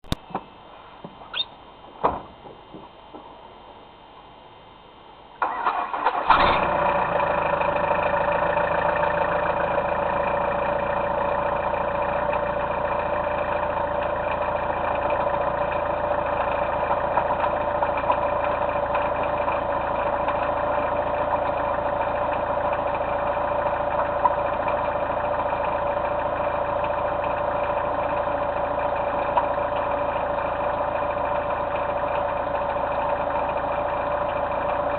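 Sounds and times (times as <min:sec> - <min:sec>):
van engine cranking and running: 0:05.4 - 0:34.9.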